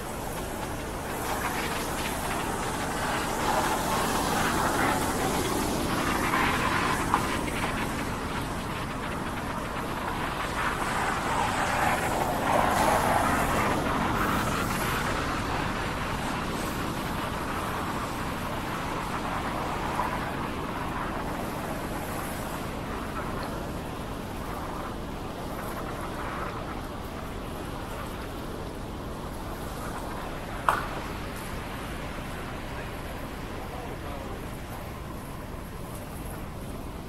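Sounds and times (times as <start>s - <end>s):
traffic on wet streets: 0.0s - 37.0s.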